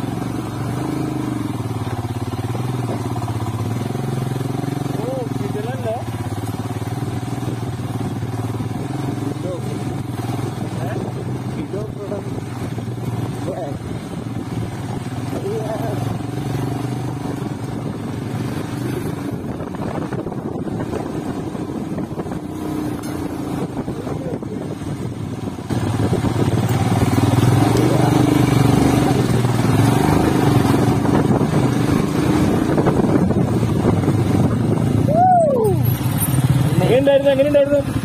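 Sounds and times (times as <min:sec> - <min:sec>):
motorcycle engine running: 0:00.0 - 0:38.0
wind and road noise: 0:00.0 - 0:38.0.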